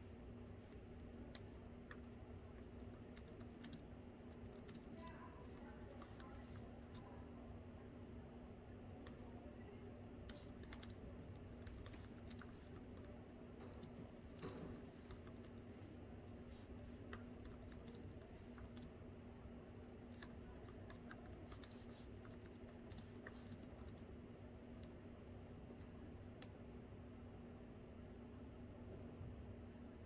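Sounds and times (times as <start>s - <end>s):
low room hum: 0.0s - 30.0s
laptop keyboard typing: 0.6s - 7.1s, 8.8s - 26.6s.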